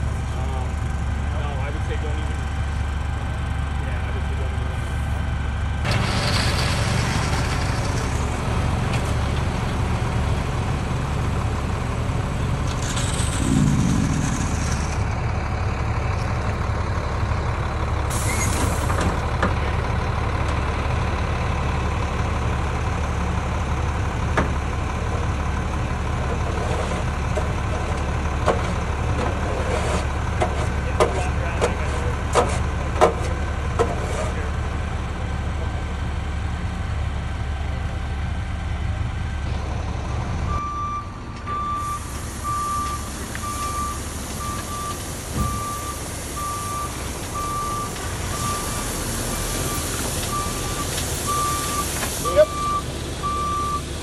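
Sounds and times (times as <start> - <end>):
heavy truck engines running: 0.0 - 54.0.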